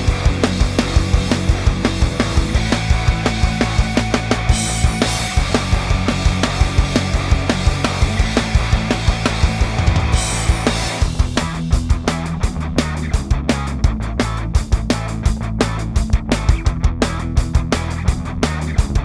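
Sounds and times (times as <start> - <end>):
heavy rock music: 0.0 - 19.0.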